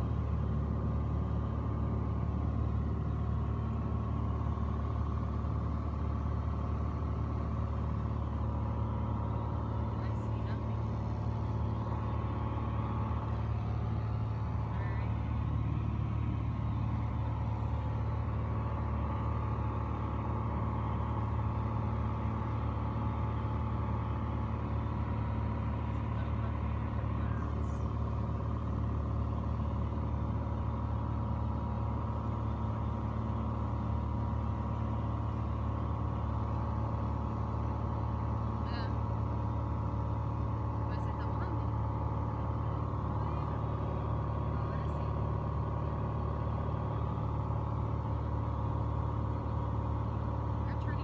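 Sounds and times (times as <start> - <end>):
aircraft engine droning: 0.0 - 51.0.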